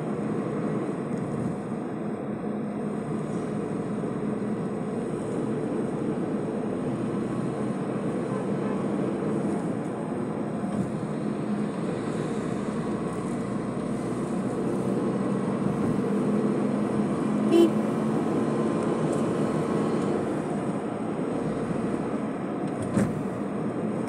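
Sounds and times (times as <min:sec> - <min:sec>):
vehicle road and engine noise: 0:00.0 - 0:24.0.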